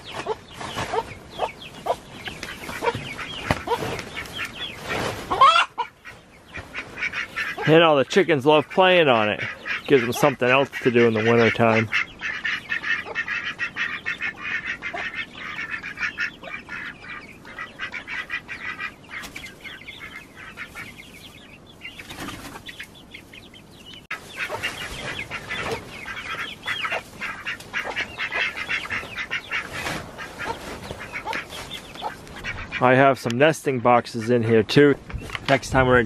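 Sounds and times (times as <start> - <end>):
chickens chattering: 0.0 - 36.0
ducks quacking: 0.0 - 36.0.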